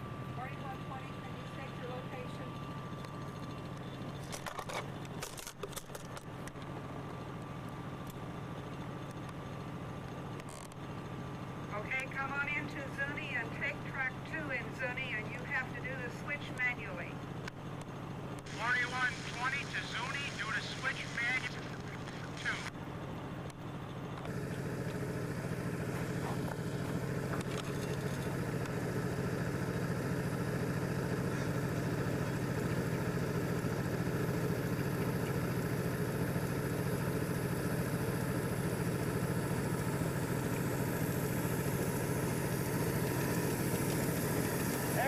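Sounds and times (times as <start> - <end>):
small engine idling: 0.0 - 45.0.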